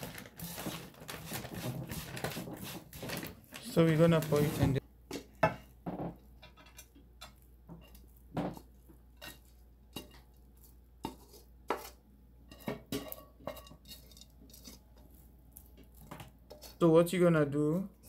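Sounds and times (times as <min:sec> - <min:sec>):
spatula knocking and scraping pan: 0:00.0 - 0:03.3, 0:04.3 - 0:10.4, 0:11.0 - 0:16.9.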